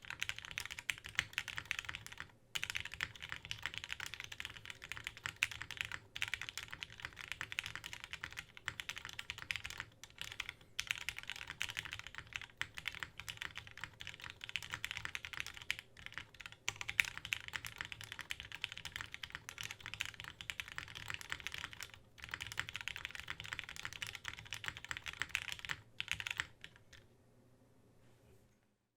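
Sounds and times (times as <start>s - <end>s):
fast typing on mechanical keyboard: 0.0s - 27.0s.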